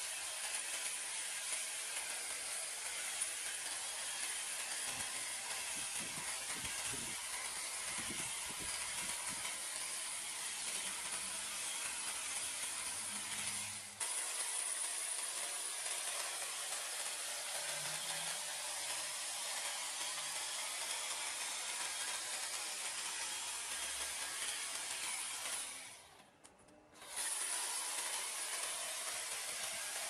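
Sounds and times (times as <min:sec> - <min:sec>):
hedge trimmer cutting: 0:00.0 - 0:26.3, 0:27.0 - 0:30.0.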